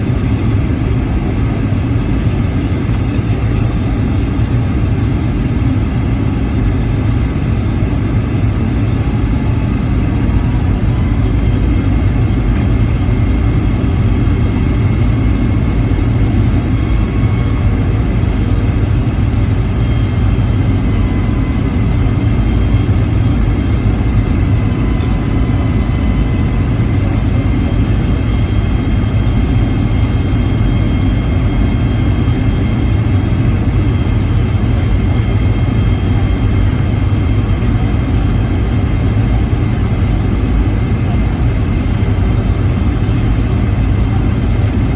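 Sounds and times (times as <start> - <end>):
deep rumble inside airplane cabin: 0.0 - 44.9
faint high engine whine: 0.0 - 44.9.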